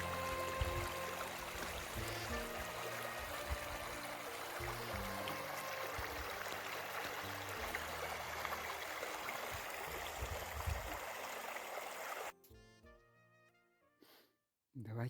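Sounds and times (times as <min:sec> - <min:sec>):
stream water rushing: 0:00.0 - 0:12.3.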